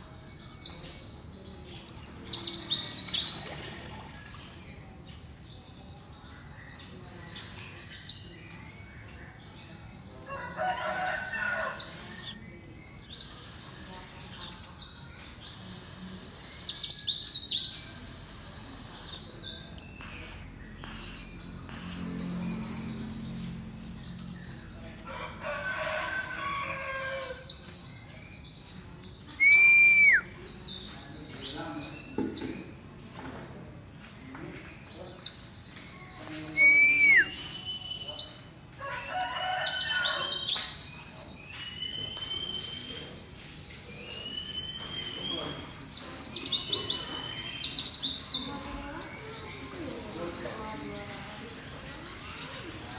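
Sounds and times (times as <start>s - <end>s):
small bird twittering song: 0.0s - 25.4s, 26.3s - 52.9s.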